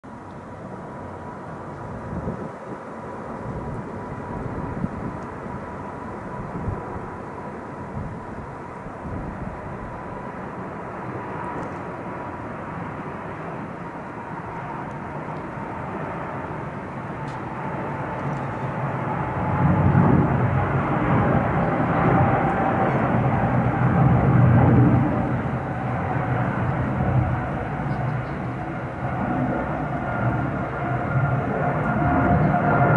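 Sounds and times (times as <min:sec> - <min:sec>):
jet engines at takeoff thrust: 0:00.1 - 0:32.9.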